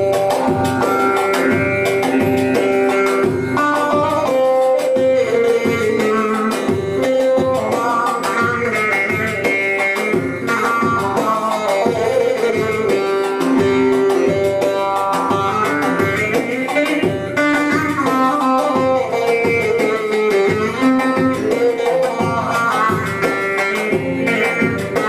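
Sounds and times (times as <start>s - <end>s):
long-necked lute folk melody: 0.0s - 25.0s
percussion rhythm: 0.0s - 25.0s.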